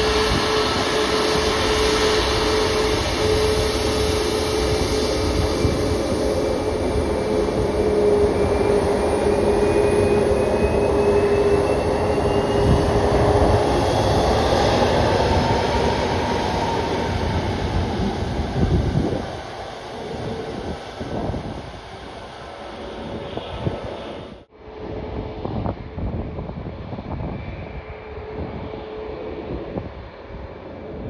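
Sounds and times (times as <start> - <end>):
jet airliner engines whining: 0.0 - 31.0.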